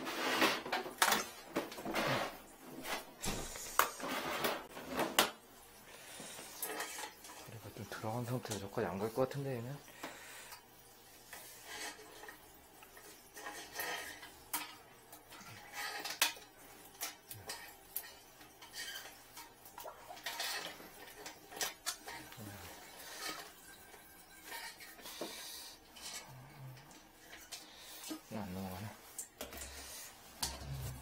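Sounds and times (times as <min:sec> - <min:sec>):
wire scraping porcelain toilet bowl: 0:06.0 - 0:31.0.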